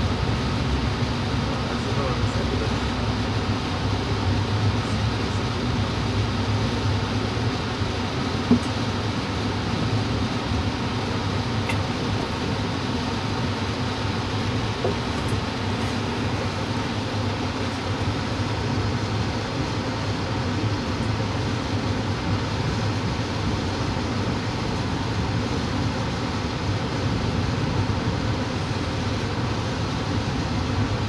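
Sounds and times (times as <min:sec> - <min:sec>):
train rumbling and rolling: 0:00.0 - 0:31.0.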